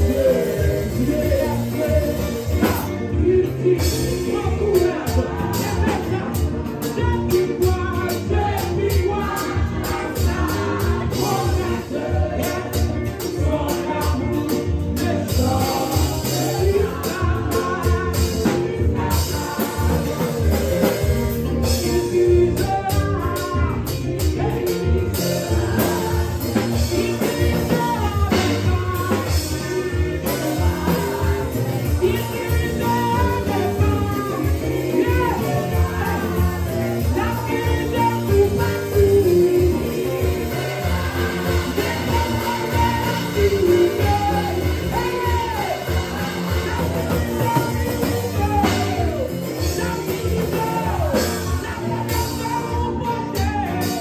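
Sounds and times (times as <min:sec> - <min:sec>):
amplified backing music: 0:00.0 - 0:54.0
women singing gospel song: 0:00.0 - 0:54.0.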